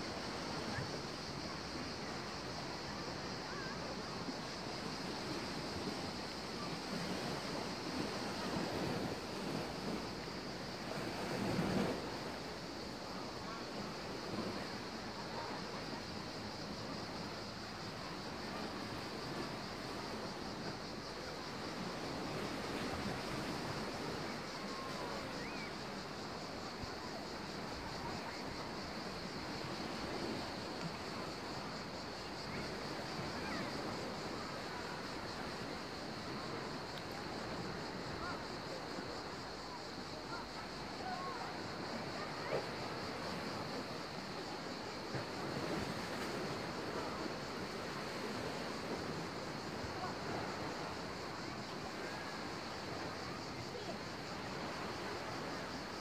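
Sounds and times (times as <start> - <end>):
faint distant voices: 0.2 - 56.0.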